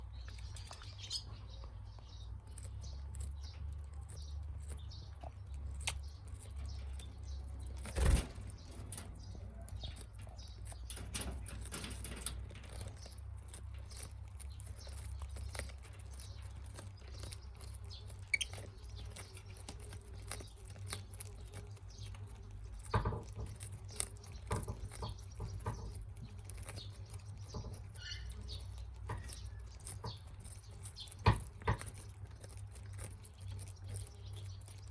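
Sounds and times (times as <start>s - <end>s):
birds pecking and scratching: 0.0s - 34.9s.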